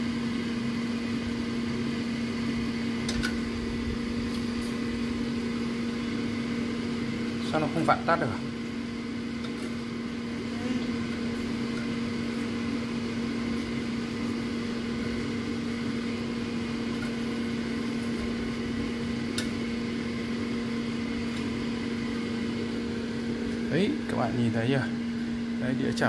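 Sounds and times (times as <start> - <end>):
air fryer fan humming: 0.0 - 26.0.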